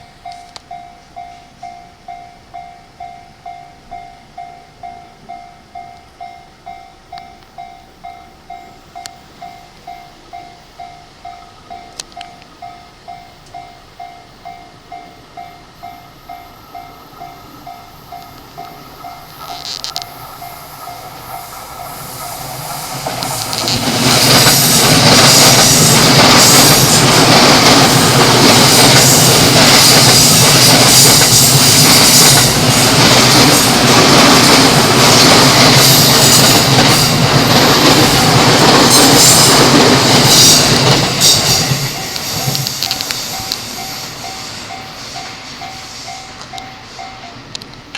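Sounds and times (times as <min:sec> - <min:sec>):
train wheels on rails: 0:00.0 - 0:47.9.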